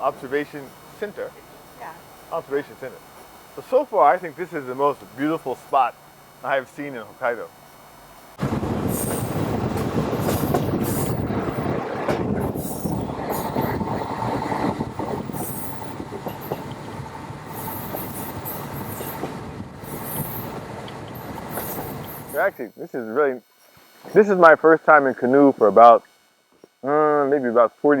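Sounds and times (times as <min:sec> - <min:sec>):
train rumble: 0:00.0 - 0:22.6.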